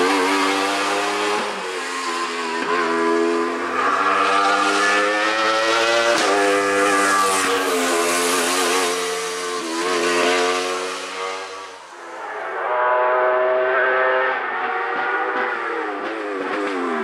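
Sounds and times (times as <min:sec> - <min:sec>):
race car engine at high revs: 0:00.0 - 0:17.0.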